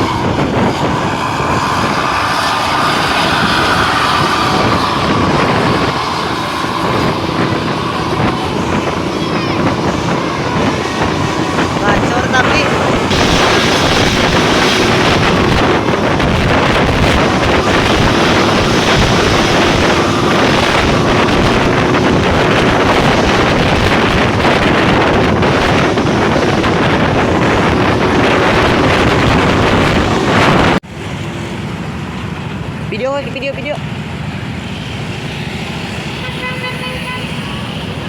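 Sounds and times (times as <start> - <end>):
wind blowing on microphone: 0.0 - 30.8.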